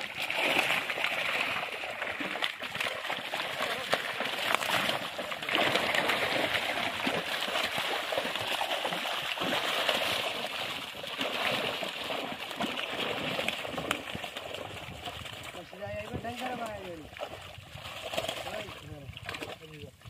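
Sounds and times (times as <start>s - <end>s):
shallow water splashing: 0.0s - 20.0s.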